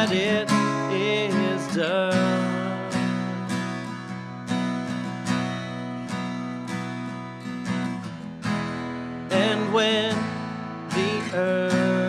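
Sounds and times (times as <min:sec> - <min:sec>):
acoustic guitar chords strummed: 0:00.0 - 0:12.0.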